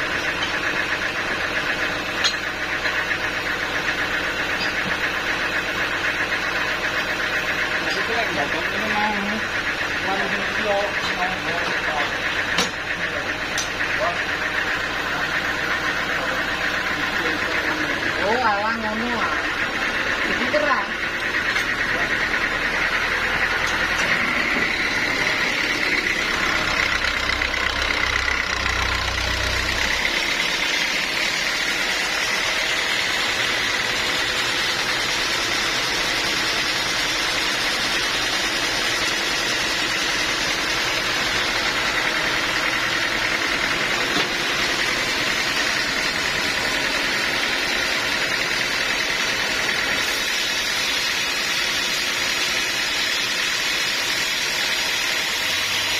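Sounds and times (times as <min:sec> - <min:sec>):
sawmill machinery whine and hum: 0:00.0 - 0:55.9.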